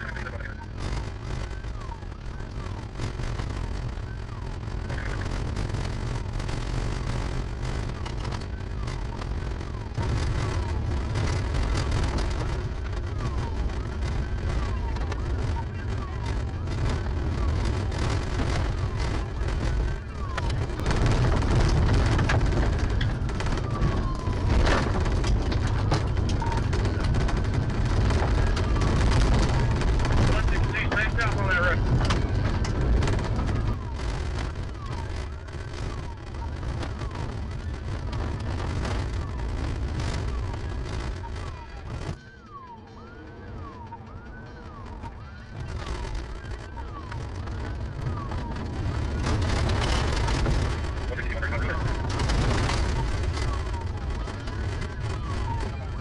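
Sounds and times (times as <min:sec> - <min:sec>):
engine and tyre rumble: 0:00.0 - 0:56.0
faint police siren wailing: 0:00.0 - 0:56.0.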